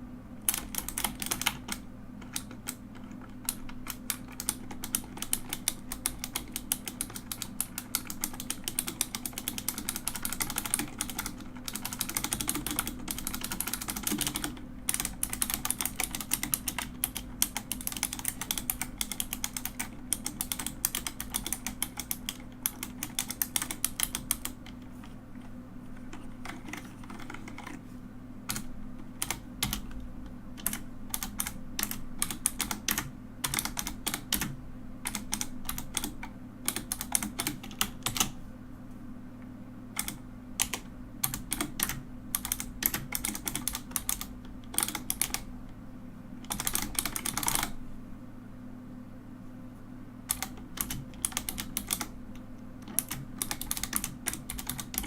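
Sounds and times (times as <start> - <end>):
mechanical keyboard typing: 0.4 - 25.2, 26.0 - 27.8, 28.5 - 38.4, 39.9 - 45.5, 46.4 - 47.8, 50.3 - 52.2, 52.8 - 55.0.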